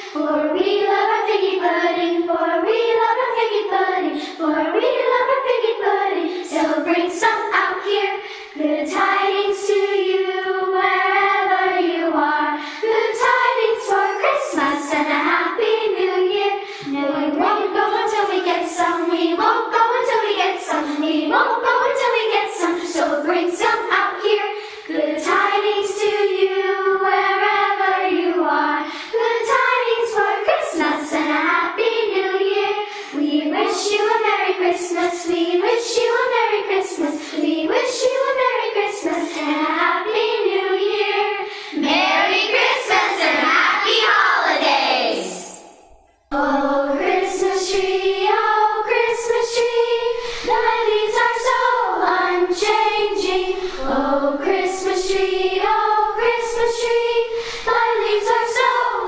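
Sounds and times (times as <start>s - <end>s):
youth choir singing: 0.0s - 59.0s.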